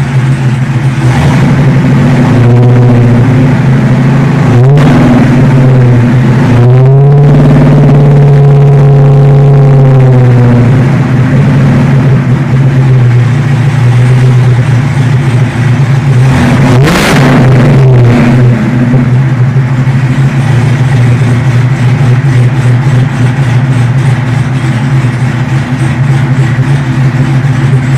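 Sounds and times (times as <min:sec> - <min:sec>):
car engine idling and revving: 0:00.0 - 0:27.9.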